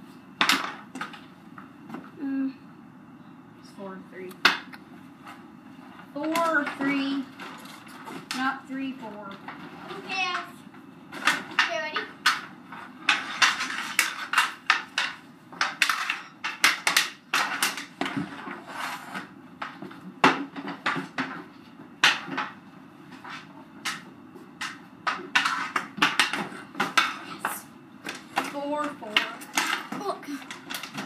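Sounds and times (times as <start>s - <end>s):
hockey sticks clacking on concrete: 0.4s - 1.3s, 6.2s - 10.5s, 11.1s - 31.0s.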